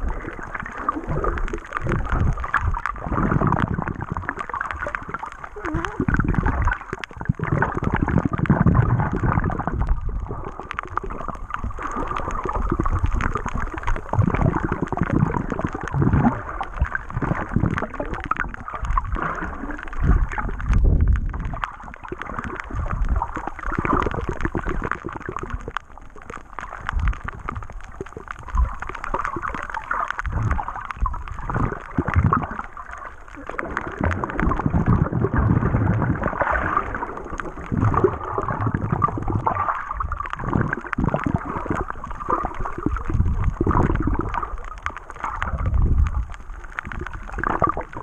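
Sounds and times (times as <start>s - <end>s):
muffled water sloshing underwater: 0.0s - 48.0s.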